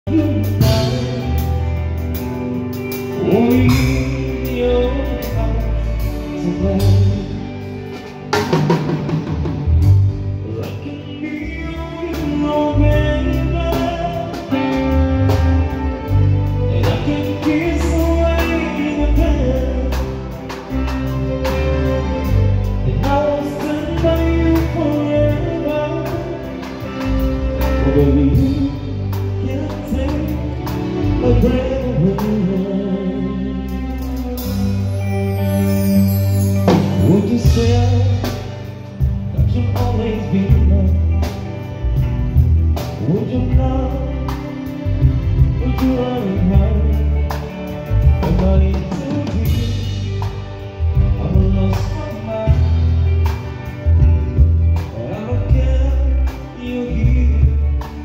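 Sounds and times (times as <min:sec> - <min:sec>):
heavy bass line: 0:00.0 - 0:58.0
live band playing: 0:00.0 - 0:58.0
person singing: 0:00.0 - 0:58.0.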